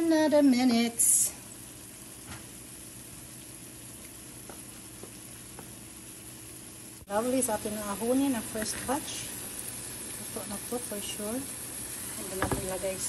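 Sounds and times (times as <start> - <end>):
plantain sizzling in oil: 0.0 - 13.0.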